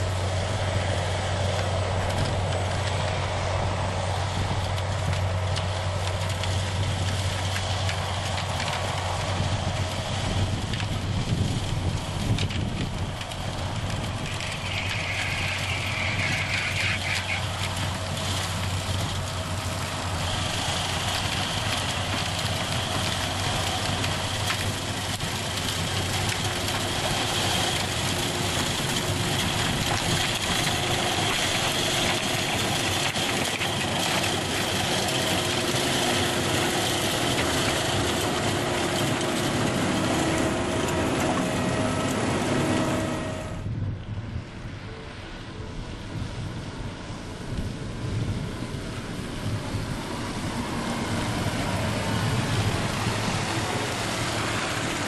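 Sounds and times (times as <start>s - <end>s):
distant tractor engine: 0.0s - 55.0s
harvester engine and machinery running: 0.0s - 55.0s.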